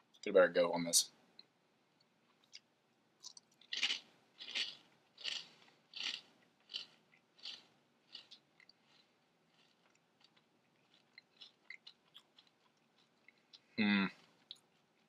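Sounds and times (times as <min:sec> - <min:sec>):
person chewing crunchy cereal: 0:02.2 - 0:15.0.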